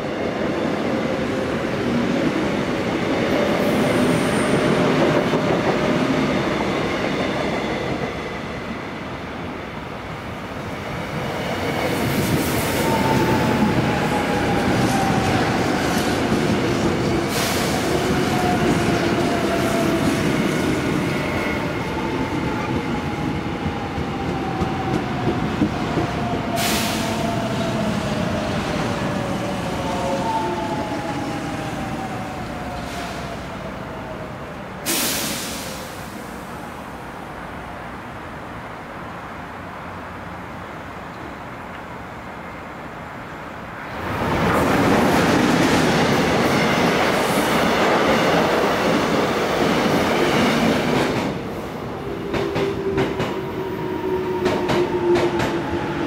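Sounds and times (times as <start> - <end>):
train wheels on rail: 0.0 - 36.8, 43.7 - 56.0.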